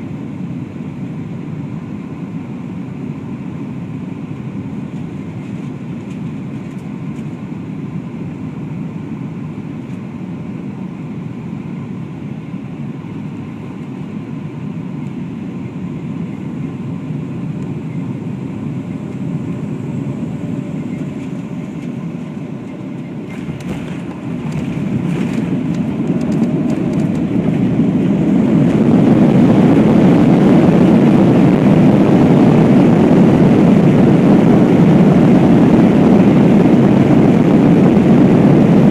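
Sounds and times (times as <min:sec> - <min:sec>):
jet engine and airflow noise: 0:00.0 - 0:38.9.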